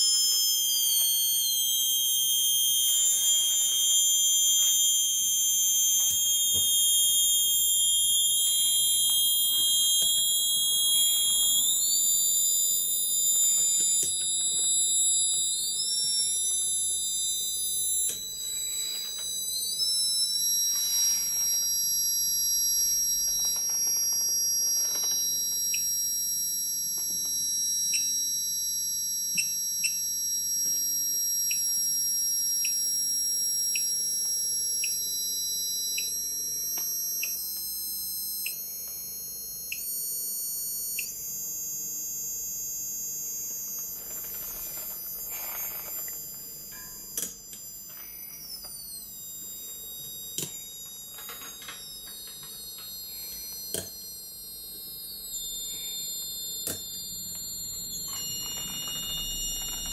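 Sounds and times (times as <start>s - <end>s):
high-pitched coil whines: 0.0s - 59.9s.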